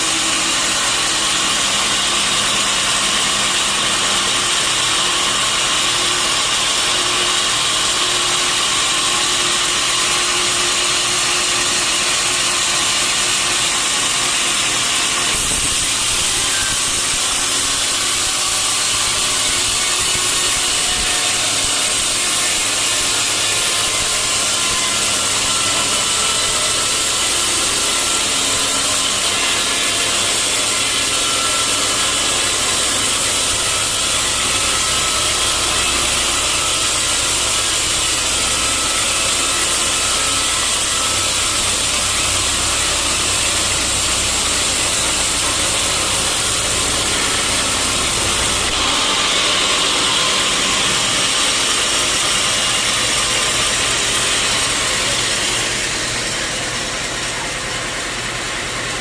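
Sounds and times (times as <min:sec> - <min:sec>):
saw blade cutting wood: 0:00.0 - 0:59.0.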